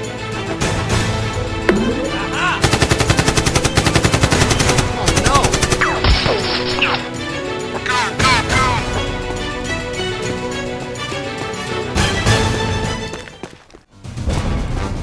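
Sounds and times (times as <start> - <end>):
action background music: 0.0 - 15.0.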